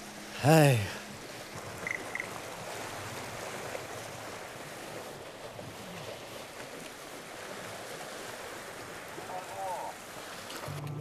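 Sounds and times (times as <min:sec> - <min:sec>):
wind: 0:00.0 - 0:11.0
waves washing against rocks: 0:01.5 - 0:10.7.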